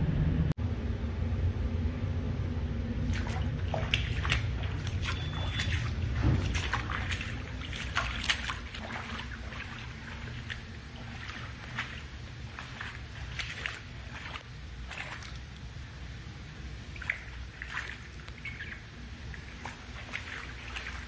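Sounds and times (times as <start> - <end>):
steady low rumble: 0.0 - 21.0
footsteps splashing through water: 3.0 - 15.7, 16.8 - 21.0.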